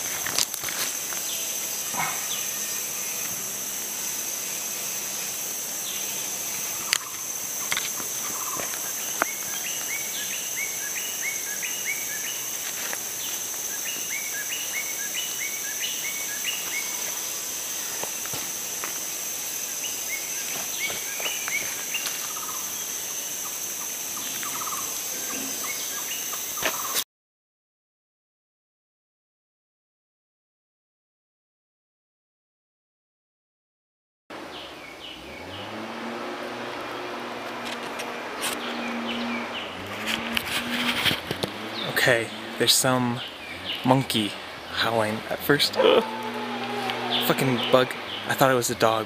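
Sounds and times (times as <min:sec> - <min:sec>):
insect chorus drone: 0:00.0 - 0:27.0, 0:34.4 - 0:49.0.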